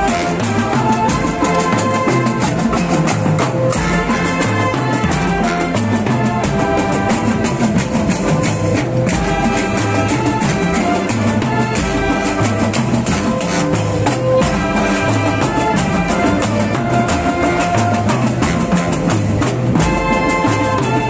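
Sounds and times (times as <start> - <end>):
bass and snare drums: 0.0 - 21.0
brass and reeds playing a tune: 0.0 - 21.0.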